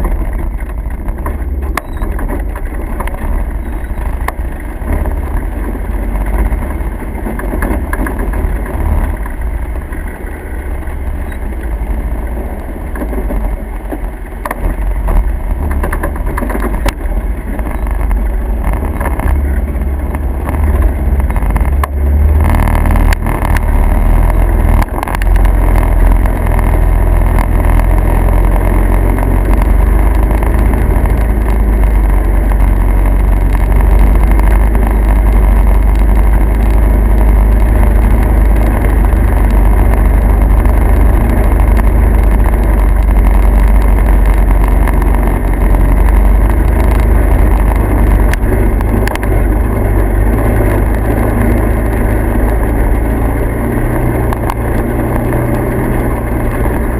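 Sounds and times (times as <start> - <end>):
vehicle engine and road noise: 0.0 - 56.9.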